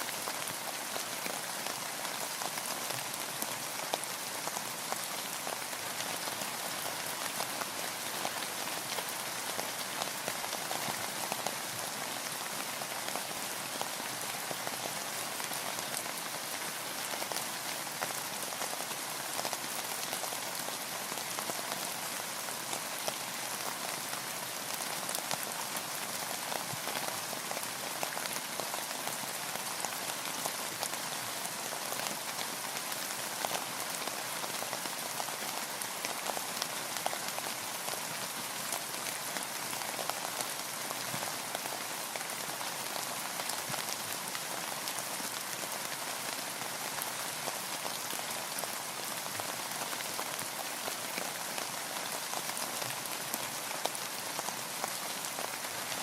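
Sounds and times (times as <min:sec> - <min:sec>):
rain falling on a boat: 0:00.0 - 0:56.0.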